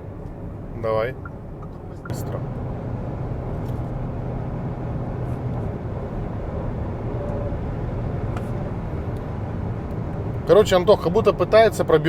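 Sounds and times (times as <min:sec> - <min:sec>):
low steady hum: 0:00.0 - 0:11.5
road noise inside moving car: 0:00.0 - 0:12.0.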